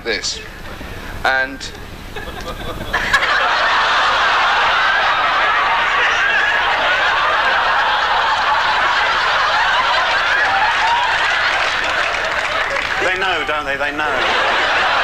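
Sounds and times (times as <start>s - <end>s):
audience laughing and crying out: 1.8s - 15.0s.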